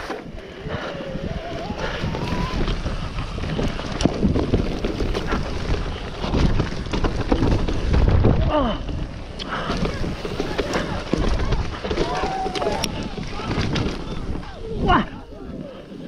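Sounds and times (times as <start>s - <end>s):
bike clattering over bumps: 0.0s - 15.6s
bike tyres rumbling on dirt: 0.0s - 16.0s
wind buffeting microphone: 0.0s - 16.0s.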